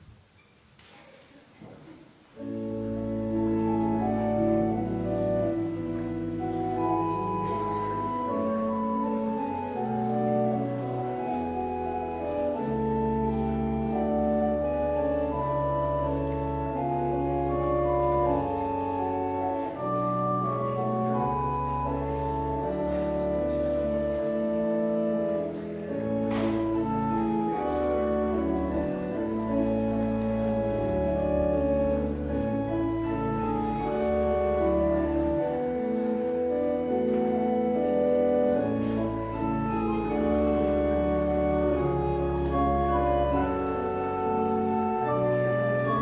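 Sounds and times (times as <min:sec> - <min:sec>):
church organ chords: 0:02.4 - 0:46.0.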